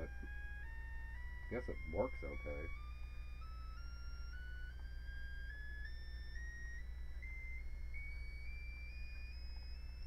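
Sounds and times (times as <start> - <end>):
amplifier hum: 0.0 - 10.0
electronic test tone rising: 0.0 - 10.0.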